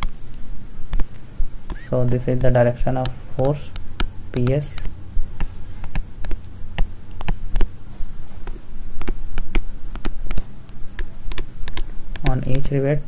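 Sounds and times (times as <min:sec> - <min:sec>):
low electrical hum: 0:00.0 - 0:13.0
digital pen clicks and taps: 0:00.9 - 0:07.7, 0:08.4 - 0:12.4.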